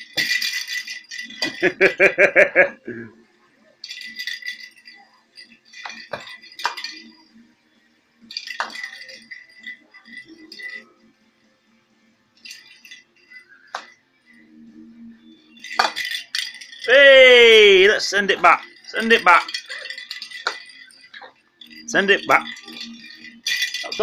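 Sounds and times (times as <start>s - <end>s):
plastic rattle ball rattling: 0.0s - 2.0s, 3.8s - 7.5s, 8.2s - 11.1s, 12.3s - 14.7s, 15.3s - 24.0s.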